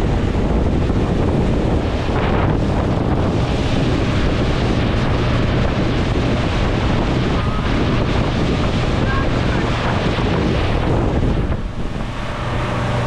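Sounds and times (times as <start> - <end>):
motorboat running: 0.0 - 13.0
water rushing past hull: 0.0 - 13.0
wind buffeting microphone: 0.0 - 13.0.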